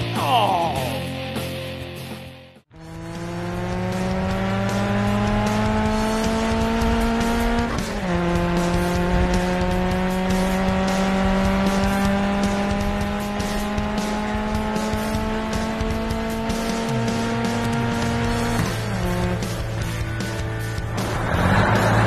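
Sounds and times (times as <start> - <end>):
sports car engine accelerating: 2.7 - 22.0.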